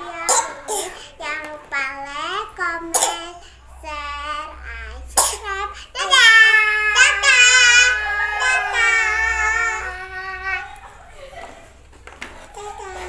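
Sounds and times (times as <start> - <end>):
child calling in sing-song: 0.0 - 10.8.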